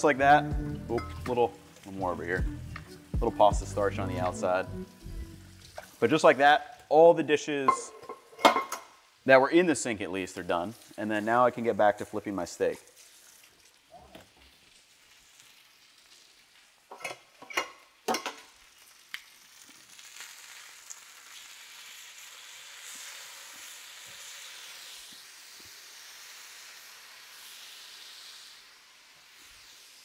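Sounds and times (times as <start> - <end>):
steaks sizzling on griddle: 0.0 - 30.0.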